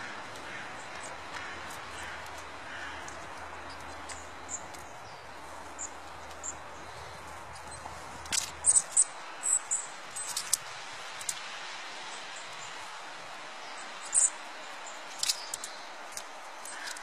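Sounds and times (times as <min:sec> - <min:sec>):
songbirds high-pitched calls: 0:00.0 - 0:11.4, 0:12.0 - 0:17.0
steady outdoor hiss: 0:00.0 - 0:17.0.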